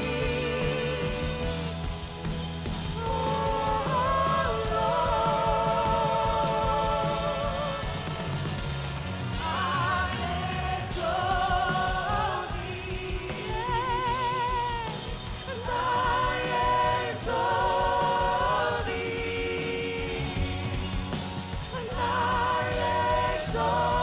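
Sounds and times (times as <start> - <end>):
band accompaniment: 0.0 - 24.0
singers with vibrato: 0.0 - 24.0.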